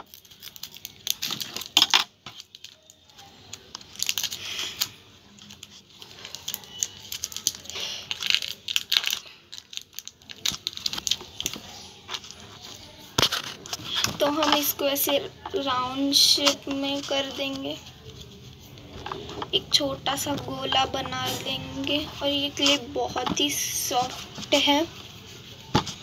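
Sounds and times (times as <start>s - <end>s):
plastic wrapper crinkling: 0.0s - 26.0s.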